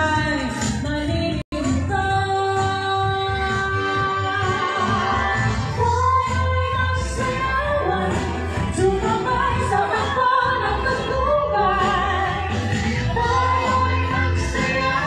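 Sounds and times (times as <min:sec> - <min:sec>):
steady bass line: 0:00.0 - 0:15.0
woman singing: 0:00.0 - 0:15.0.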